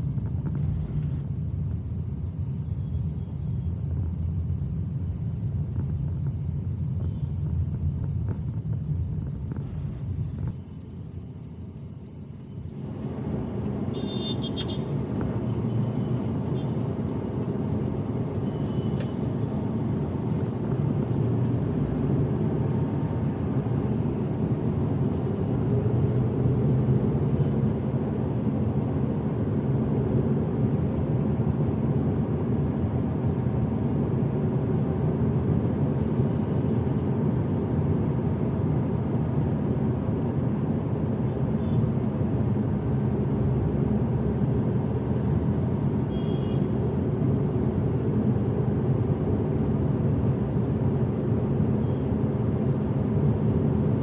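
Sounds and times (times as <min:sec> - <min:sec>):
car engine and tyre noise: 0:00.0 - 0:54.0
surrounding traffic: 0:00.0 - 0:54.0.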